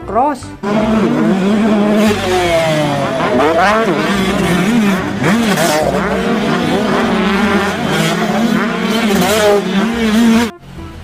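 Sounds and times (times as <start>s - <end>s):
dirt bike engines revving: 0.6s - 10.5s.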